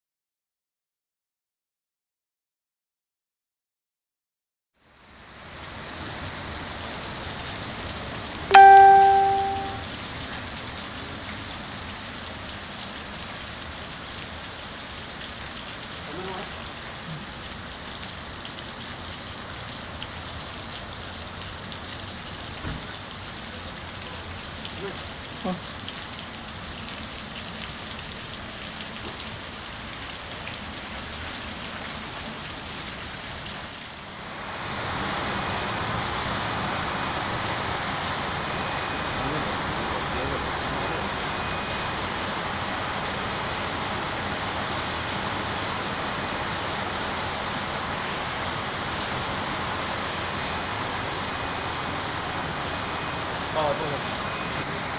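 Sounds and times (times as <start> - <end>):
heavy rain on paving: 4.8 - 54.9.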